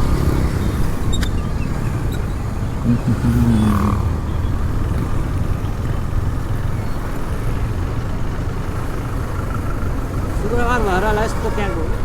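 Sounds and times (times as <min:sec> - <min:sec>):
motorcycle engine and road rumble: 0:00.0 - 0:12.0.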